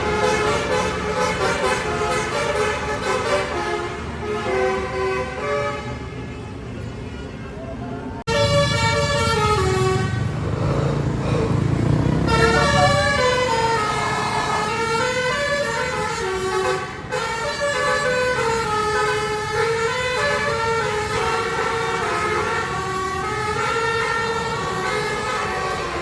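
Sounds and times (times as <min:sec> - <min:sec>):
multi-tone air horn melody: 0:00.0 - 0:06.3, 0:08.3 - 0:10.6, 0:12.1 - 0:26.0.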